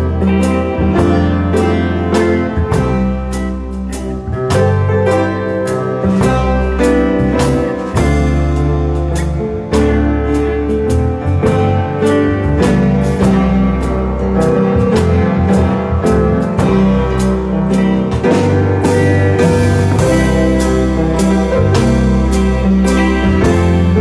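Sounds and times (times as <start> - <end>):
grand piano playing chords: 0.0 - 24.0.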